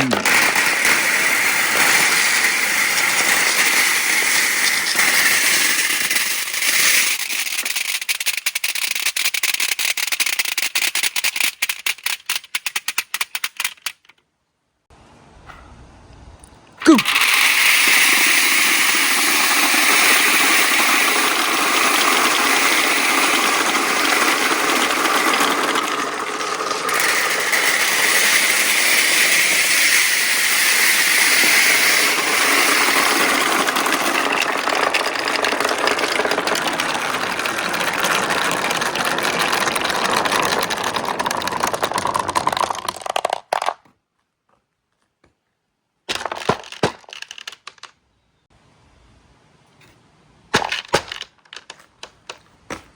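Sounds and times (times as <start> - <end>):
marbles rattling down a track: 0.0 - 14.2, 16.9 - 43.8, 46.1 - 47.9.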